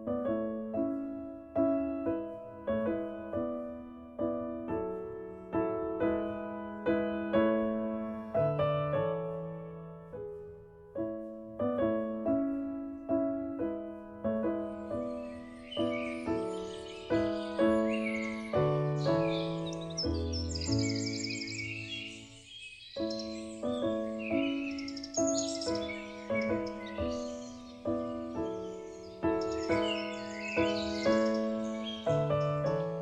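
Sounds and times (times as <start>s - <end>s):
birds chirping faintly: 0.0s - 33.0s
slow piano music: 0.0s - 33.0s.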